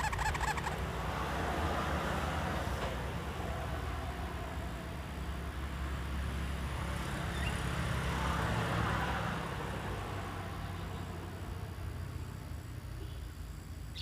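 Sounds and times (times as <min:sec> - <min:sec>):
vehicle passing: 0:00.0 - 0:13.0
low traffic rumble: 0:00.0 - 0:14.0.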